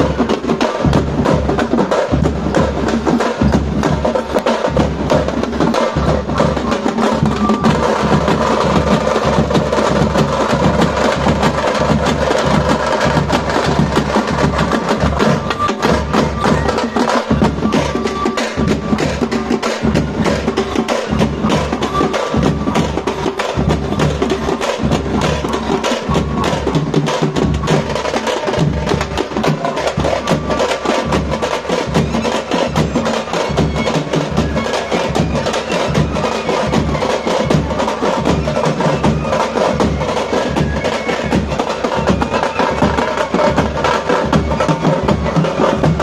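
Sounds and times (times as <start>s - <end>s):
drums playing fast rhythm: 0.0s - 46.0s.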